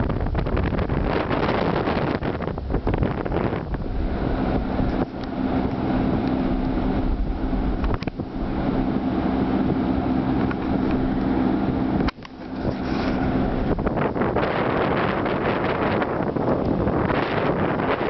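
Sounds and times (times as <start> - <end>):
steady low hum: 0.0 - 18.0
wind buffeting microphone: 0.0 - 18.0.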